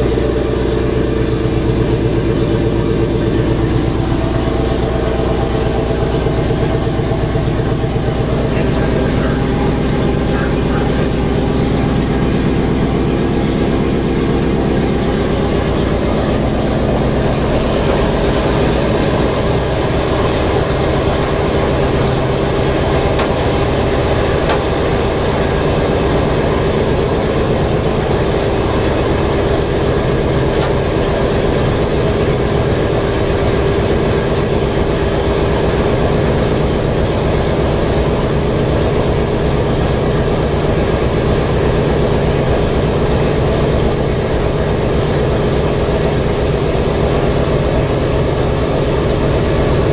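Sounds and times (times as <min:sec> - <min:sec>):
radial aircraft engines droning: 0:00.0 - 0:49.9.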